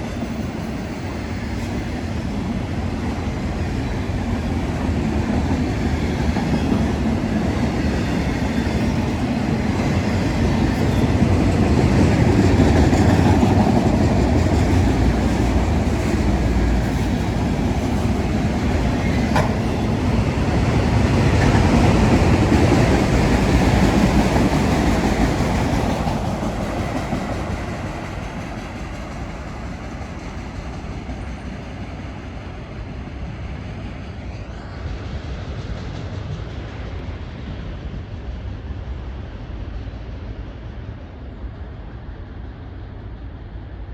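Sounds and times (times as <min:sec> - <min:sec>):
train cars rolling on rails: 0:00.0 - 0:38.0.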